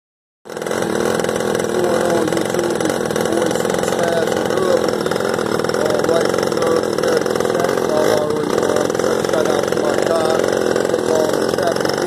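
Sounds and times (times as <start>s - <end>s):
small engine running buzzily: 0.5s - 12.0s.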